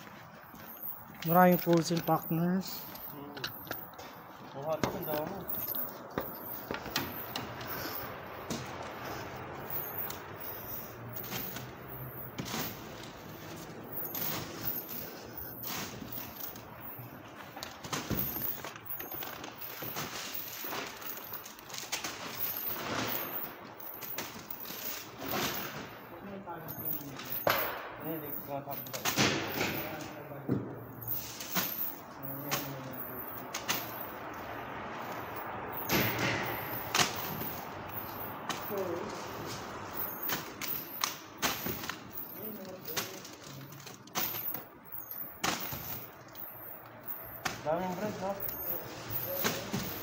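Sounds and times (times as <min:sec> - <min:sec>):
wrappers rustling: 0:00.0 - 0:27.4, 0:28.0 - 0:35.9, 0:36.5 - 0:50.0.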